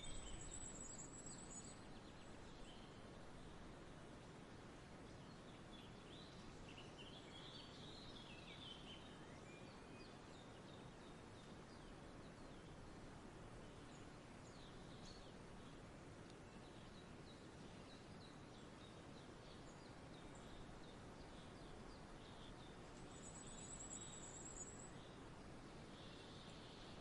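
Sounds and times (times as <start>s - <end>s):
small birds chirping: 0.0s - 4.2s, 5.1s - 27.0s
soft steady hiss: 0.0s - 27.0s.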